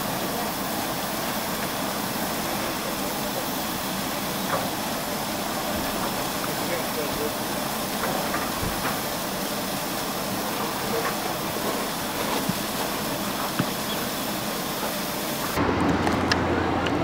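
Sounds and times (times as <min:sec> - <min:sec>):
steam hissing from locomotive: 0:00.0 - 0:15.6.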